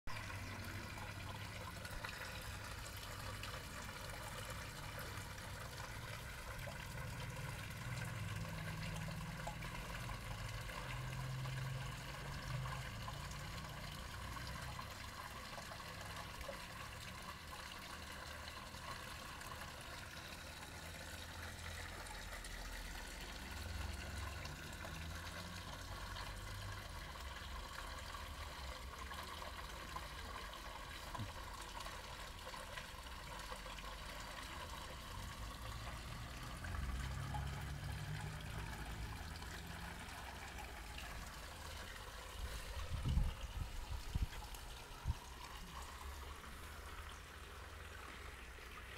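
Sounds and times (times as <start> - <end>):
water trickling into pond: 0.1 - 48.9.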